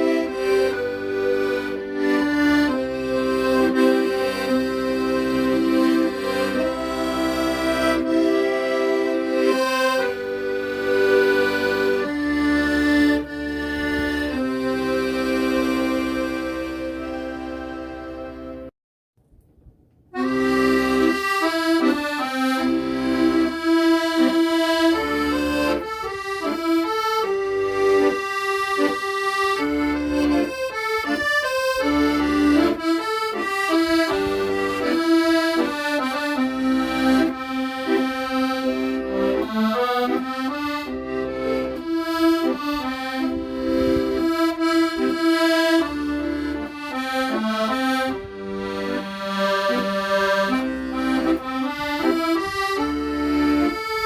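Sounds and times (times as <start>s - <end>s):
accordion playing slow melody: 0.0s - 18.7s, 20.1s - 54.0s.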